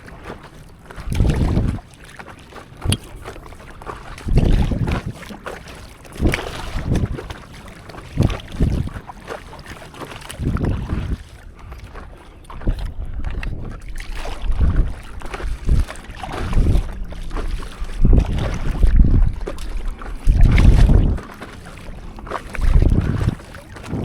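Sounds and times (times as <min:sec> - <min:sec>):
wind buffeting microphone: 0:00.0 - 0:02.0, 0:02.7 - 0:24.0
water sloshing and splashing: 0:00.0 - 0:24.0.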